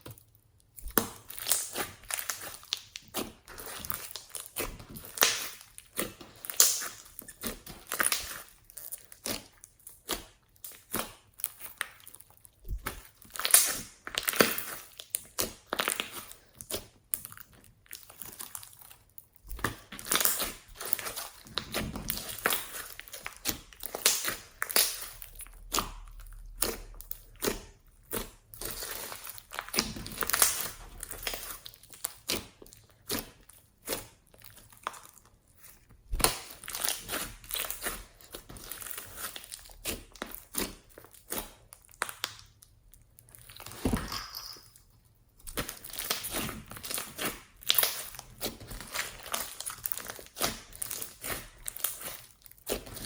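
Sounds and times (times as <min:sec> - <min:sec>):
slime squished by hand: 0:00.0 - 0:44.0, 0:45.4 - 0:53.0.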